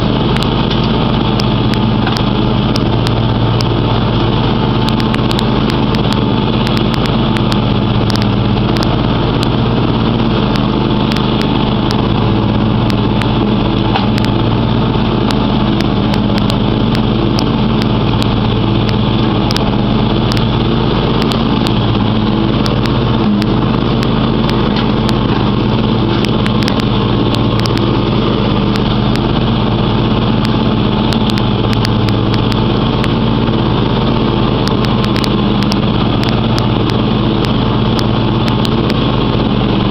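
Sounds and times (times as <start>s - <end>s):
lawn tractor engine running: 0.0s - 39.9s
sharp clicks: 0.3s - 3.8s, 4.8s - 9.6s, 10.5s - 12.2s, 12.8s - 14.5s, 15.2s - 28.0s, 30.3s - 39.9s.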